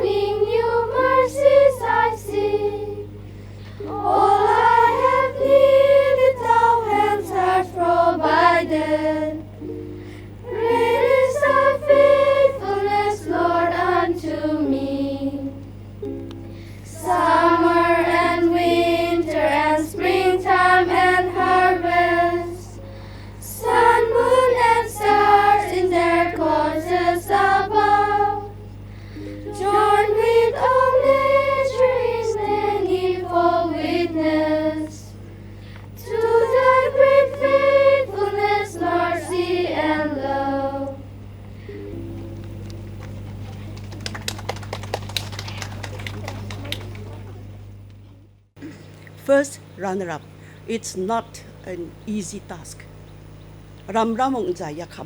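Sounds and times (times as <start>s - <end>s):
high voices singing: 0.0s - 47.7s
steady low hum: 0.0s - 55.0s.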